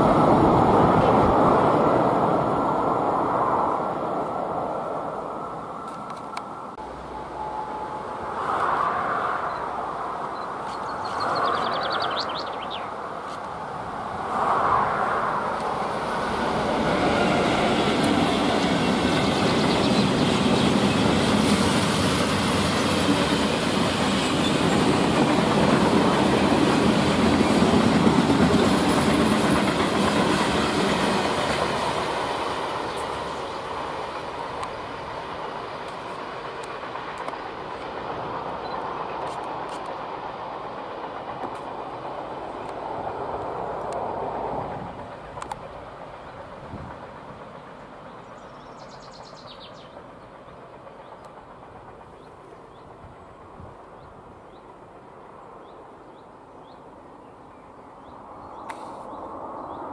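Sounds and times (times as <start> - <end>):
freight train rumble and wheel clatter: 0.0 - 59.9.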